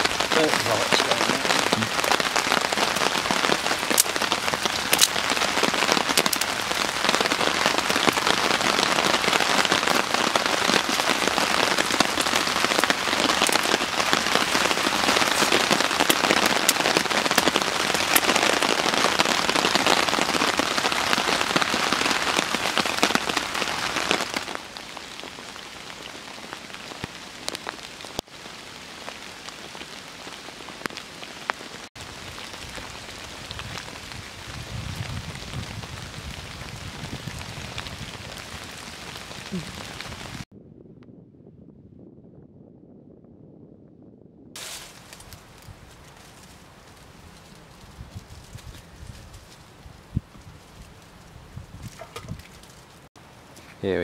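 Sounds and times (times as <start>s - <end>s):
kindling fire crackling: 0.0s - 40.5s, 44.6s - 54.0s.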